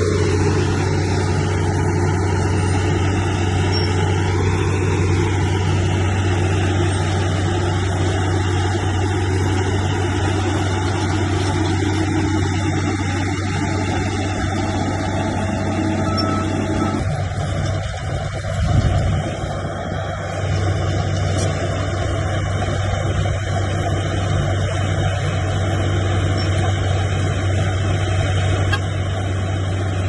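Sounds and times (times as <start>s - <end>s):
bulldozer diesel engine droning: 0.0s - 30.0s.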